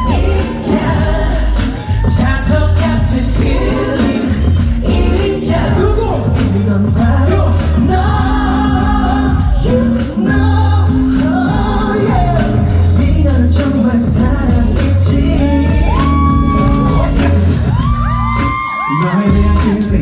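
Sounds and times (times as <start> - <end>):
male vocal group singing: 0.0 - 18.1, 18.8 - 20.0
loud band playing: 0.0 - 20.0.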